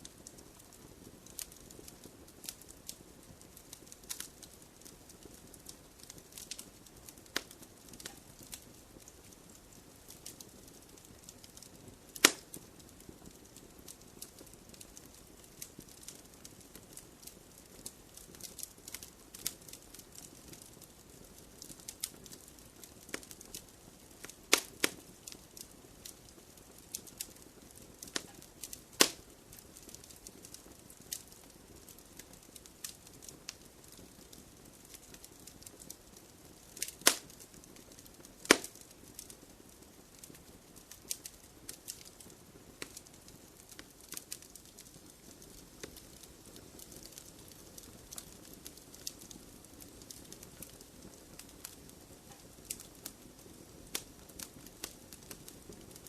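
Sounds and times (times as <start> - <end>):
loud snaps of burning wood: 0.0 - 56.0
wood fire crackling: 0.0 - 56.0.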